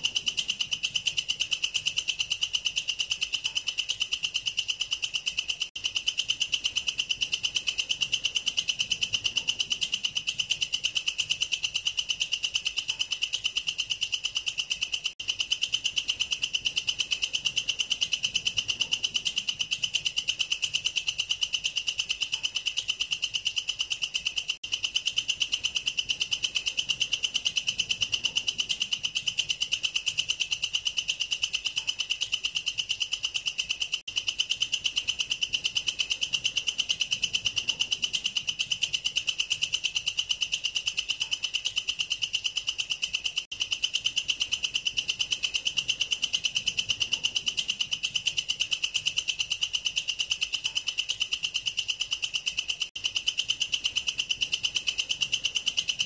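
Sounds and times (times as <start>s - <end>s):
katydid stridulating: 0.0s - 56.0s.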